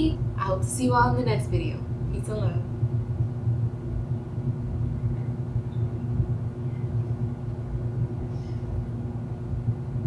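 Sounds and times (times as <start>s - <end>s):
low rumble with faint hum: 0.0s - 10.0s.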